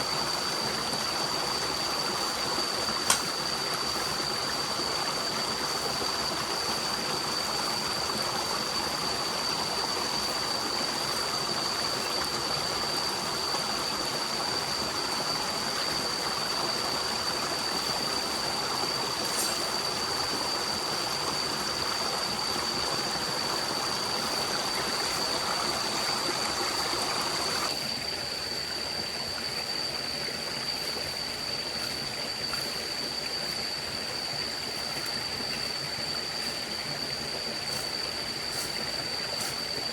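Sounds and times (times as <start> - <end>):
stream flowing water: 0.0 - 39.9
thin high steady tone: 0.0 - 39.9.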